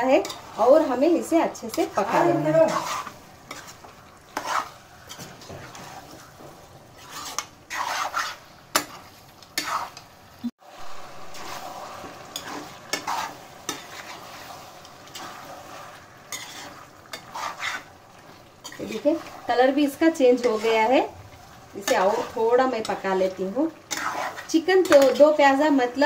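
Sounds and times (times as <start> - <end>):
metal spatula scraping pan: 0.0 - 10.1, 11.2 - 26.0
chicken and onions sizzling in oil: 0.0 - 26.0.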